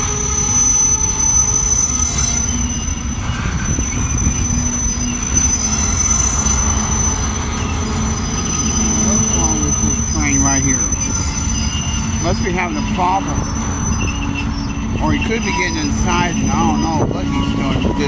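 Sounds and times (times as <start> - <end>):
freight train low rumble: 0.0 - 18.0
high-pitched squeal: 0.0 - 18.0.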